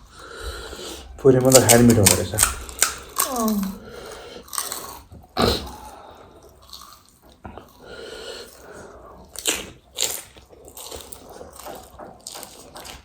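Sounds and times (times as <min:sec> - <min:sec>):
wet chewing and slurping: 0:00.2 - 0:13.0.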